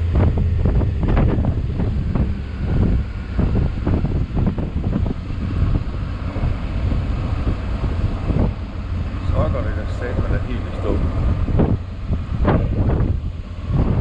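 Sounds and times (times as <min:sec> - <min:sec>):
motorcycle rumble: 0:00.0 - 0:14.0
wind buffeting microphone: 0:00.0 - 0:14.0.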